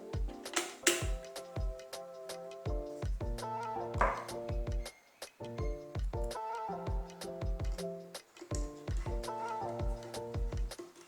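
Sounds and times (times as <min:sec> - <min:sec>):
kick drum and percussion beat: 0:00.0 - 0:02.0, 0:02.7 - 0:04.9, 0:05.6 - 0:10.8.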